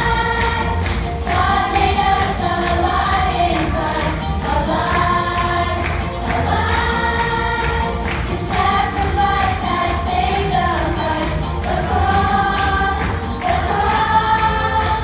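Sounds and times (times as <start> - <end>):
group of voices singing: 0.0 - 15.0
instrumental backing music: 0.0 - 15.0.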